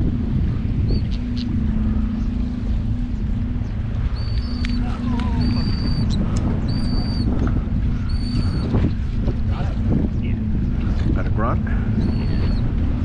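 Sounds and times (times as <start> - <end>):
boat engine hum: 0.0 - 13.0
wind buffeting microphone: 0.0 - 13.0.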